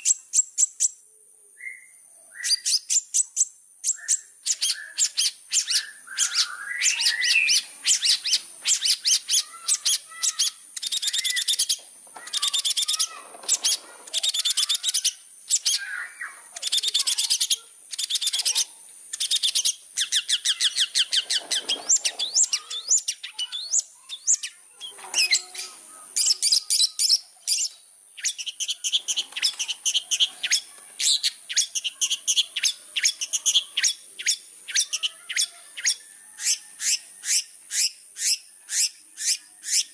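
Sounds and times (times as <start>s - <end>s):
bird song trills: 0.0s - 39.9s
steady high hiss: 0.0s - 39.9s.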